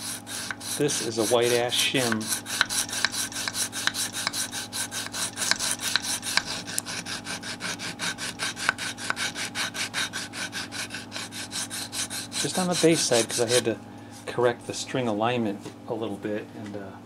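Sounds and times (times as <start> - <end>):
wood sanding strokes: 0.0 - 13.7.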